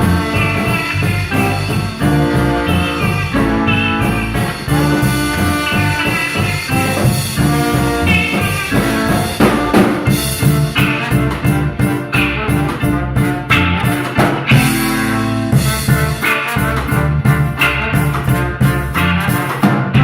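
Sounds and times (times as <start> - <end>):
drum kit beat: 0.0 - 20.0
live instrumental band: 0.0 - 20.0.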